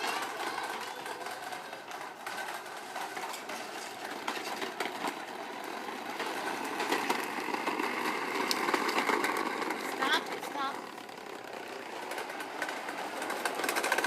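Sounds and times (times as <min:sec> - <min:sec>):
toy motor running: 0:00.0 - 0:14.0.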